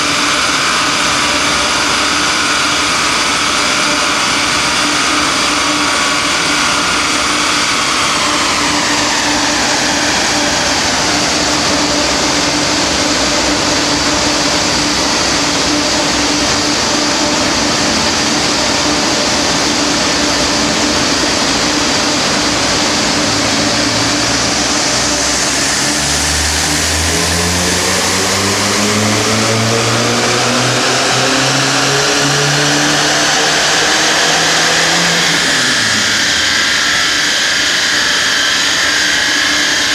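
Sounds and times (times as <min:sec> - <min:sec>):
diesel car engine revving: 0:00.0 - 0:38.0
dyno cooling fan rushing: 0:00.0 - 0:39.9
high whine: 0:00.0 - 0:39.9.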